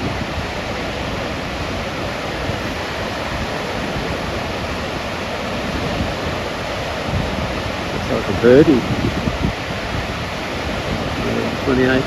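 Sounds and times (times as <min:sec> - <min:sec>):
surf breaking: 0:00.0 - 0:12.0
wind: 0:00.0 - 0:12.0.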